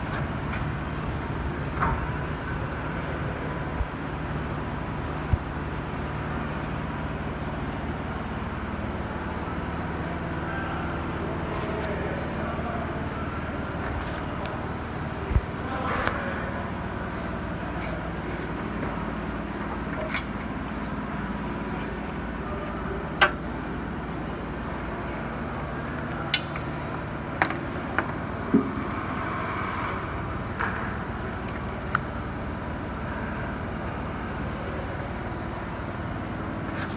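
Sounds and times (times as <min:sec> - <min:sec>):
low mechanical hum: 0:00.0 - 0:36.9.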